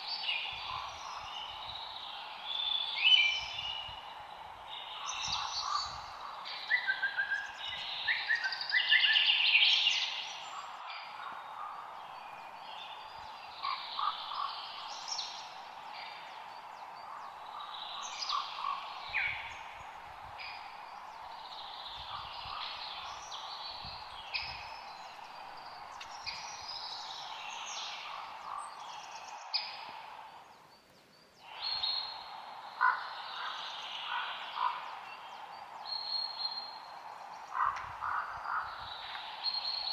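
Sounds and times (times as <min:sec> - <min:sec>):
birds chirping and trilling: 0:00.0 - 0:39.9
steady background hiss: 0:00.0 - 0:39.9.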